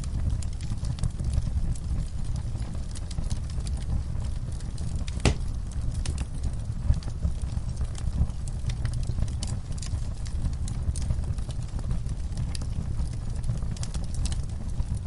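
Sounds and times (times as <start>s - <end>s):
low fire rumble: 0.0s - 15.0s
wood fire popping and snapping: 0.0s - 15.0s.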